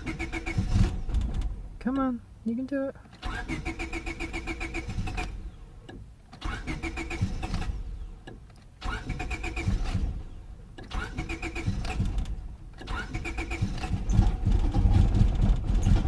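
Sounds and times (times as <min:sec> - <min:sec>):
car starter cranking engine: 0:00.0 - 0:02.2, 0:03.0 - 0:16.0.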